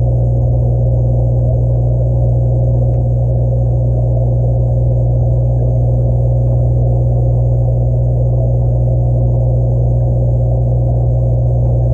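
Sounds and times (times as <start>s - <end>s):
aquarium equipment humming: 0.0s - 11.9s.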